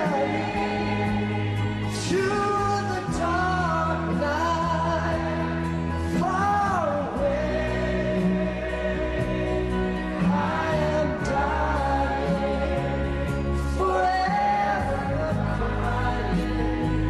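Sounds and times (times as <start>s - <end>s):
voices singing over held chords: 0.0s - 17.0s.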